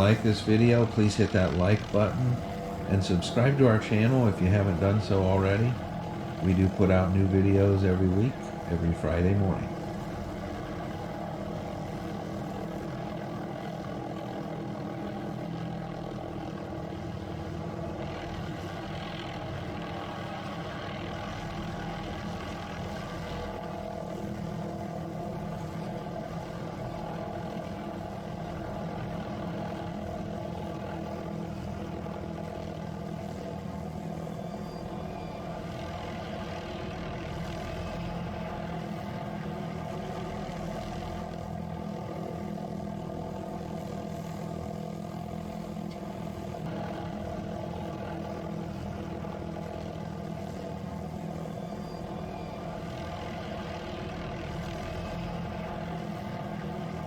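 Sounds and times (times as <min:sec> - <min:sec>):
helicopter drone: 0:00.0 - 0:57.0.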